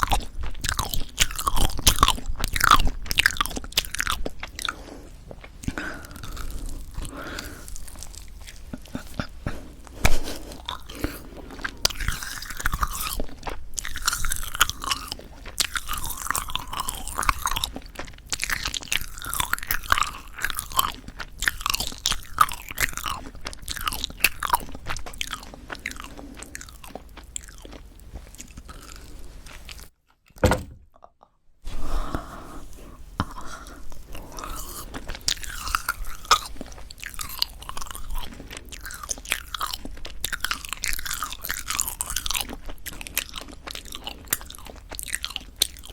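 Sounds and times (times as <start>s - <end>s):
chewing rubbery marshmallow: 0.0s - 30.3s, 32.0s - 45.9s.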